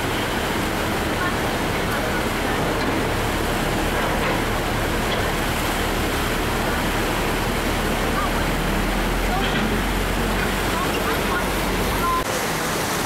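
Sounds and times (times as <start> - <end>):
truck engine rumble: 0.0 - 12.6
road hiss: 0.0 - 13.0.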